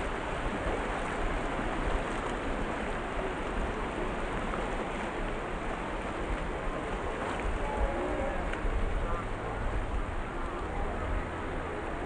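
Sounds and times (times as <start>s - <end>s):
sea surf on beach: 0.0s - 12.0s
wind rumbling on microphone: 0.0s - 12.0s.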